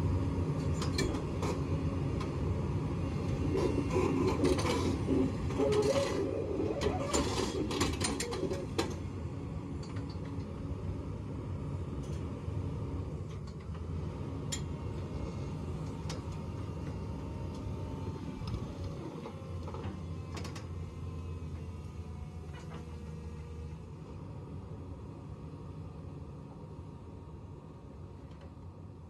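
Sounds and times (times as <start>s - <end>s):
excavator diesel engine running: 0.0s - 26.7s.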